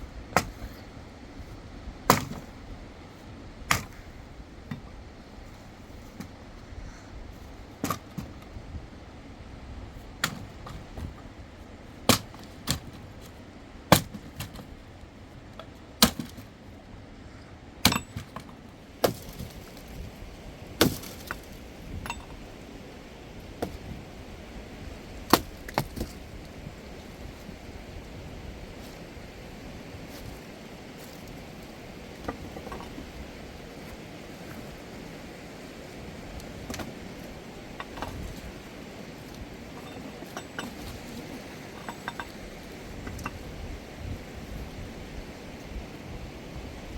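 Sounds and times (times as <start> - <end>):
steady background hiss: 0.0 - 46.9.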